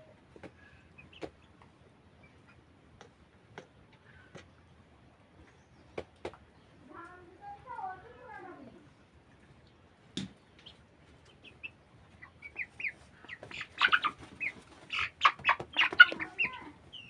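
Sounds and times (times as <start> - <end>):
chickens clucking and calling: 0.0 - 6.8, 7.6 - 17.0.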